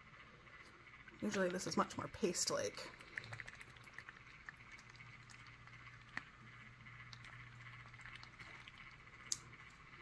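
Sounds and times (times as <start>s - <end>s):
faint low motor hum: 0.0s - 10.0s.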